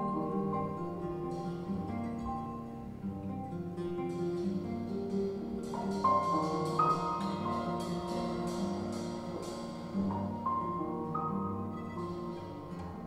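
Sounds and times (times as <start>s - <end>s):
sharply attacked pitched notes: 0.0s - 13.0s.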